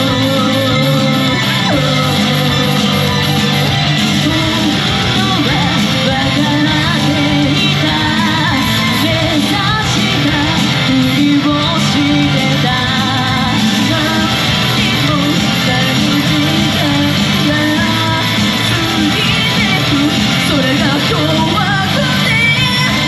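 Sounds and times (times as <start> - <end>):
female voices singing: 0.0 - 23.0
rock music with electric guitar: 0.0 - 23.0.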